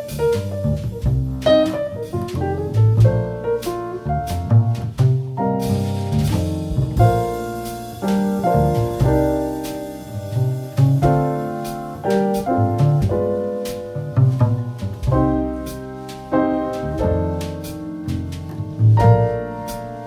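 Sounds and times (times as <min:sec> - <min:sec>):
jazz piano music: 0:00.0 - 0:20.0
light drum hits: 0:00.0 - 0:20.0.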